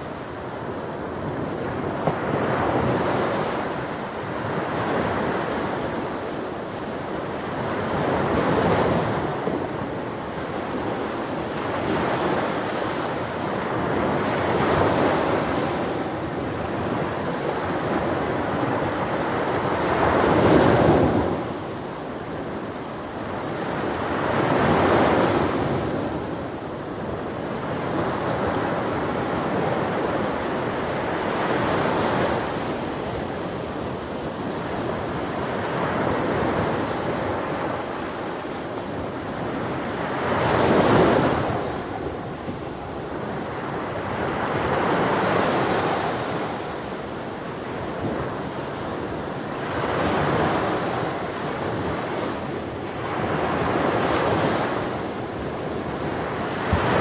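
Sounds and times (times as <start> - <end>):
ocean waves breaking: 0.0 - 57.0
wind on microphone: 0.0 - 57.0.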